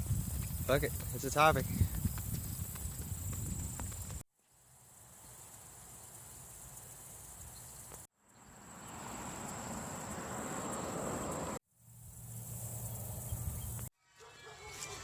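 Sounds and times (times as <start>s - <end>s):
crickets trilling: 0.0s - 13.9s.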